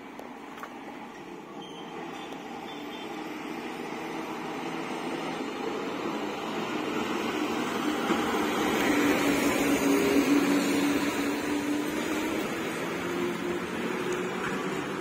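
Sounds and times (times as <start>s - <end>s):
bus diesel engine passing: 0.0s - 15.0s.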